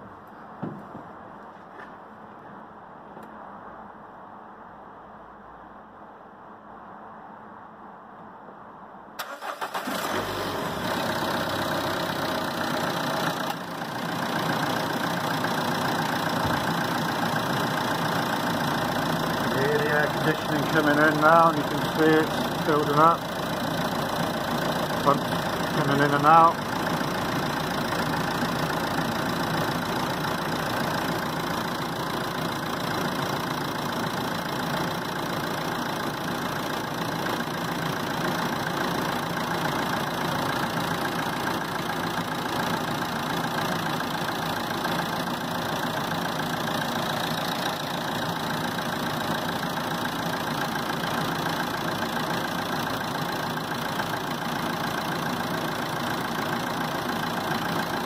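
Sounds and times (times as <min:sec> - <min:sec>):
car engine idling: 0:09.2 - 0:58.0.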